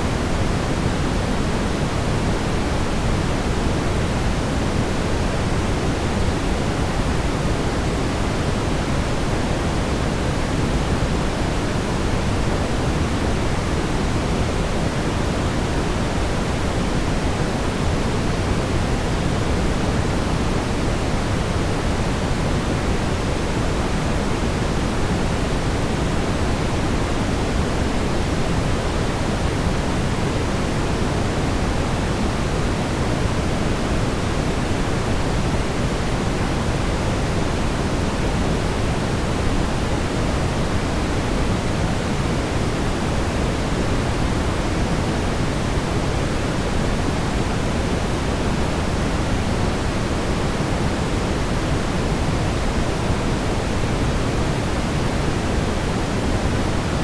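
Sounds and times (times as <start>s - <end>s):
brown noise rumbling hiss: 0.0s - 57.0s.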